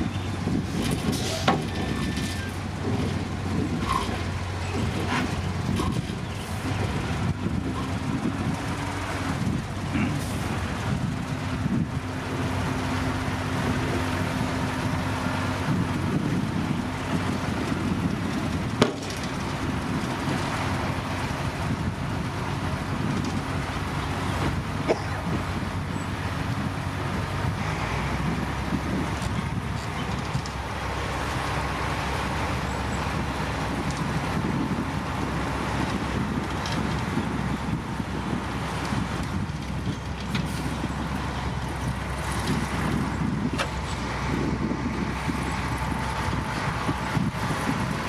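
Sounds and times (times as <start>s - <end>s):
diesel machinery engine drone: 0.0s - 48.0s.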